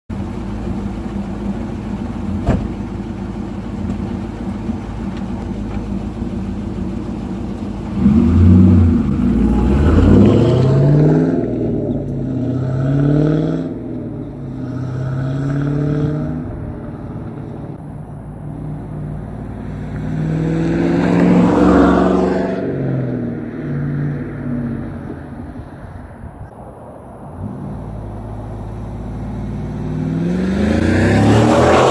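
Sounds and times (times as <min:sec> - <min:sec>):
car engine through exhaust: 0:00.1 - 0:31.9.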